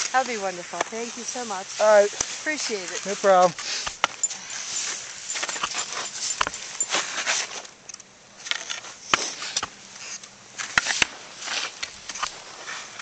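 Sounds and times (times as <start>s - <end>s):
skis scraping over snow: 0.0s - 7.8s, 8.5s - 13.0s.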